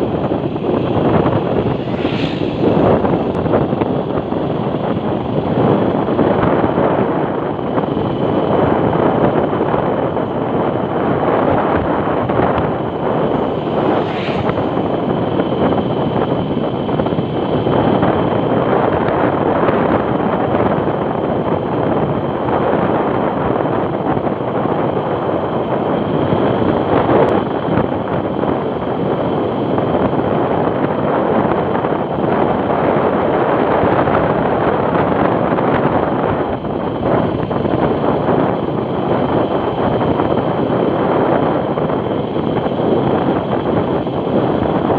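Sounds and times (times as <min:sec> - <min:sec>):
vehicle and road noise: 0:00.0 - 0:44.9
wind rushing over microphone: 0:00.0 - 0:44.9.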